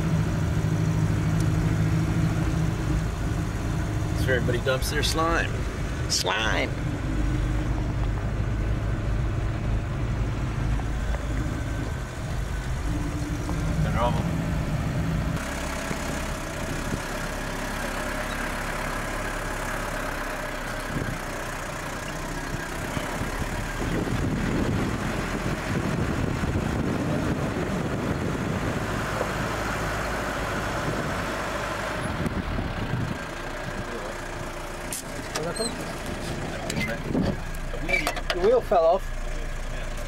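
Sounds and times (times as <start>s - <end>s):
tyre and ground noise: 0.0s - 40.0s
vehicle engine running: 0.0s - 40.0s.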